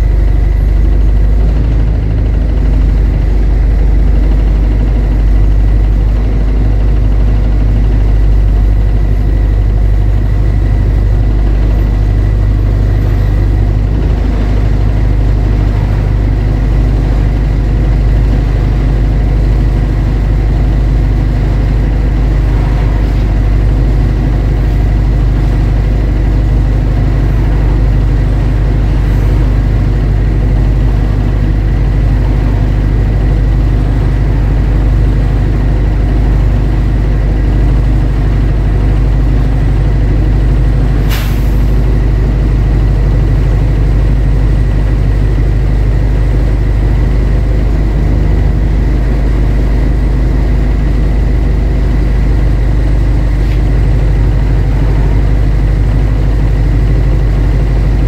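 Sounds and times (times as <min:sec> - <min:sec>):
bus engine rumble: 0:00.0 - 0:58.0
steady high whine: 0:00.0 - 0:58.0.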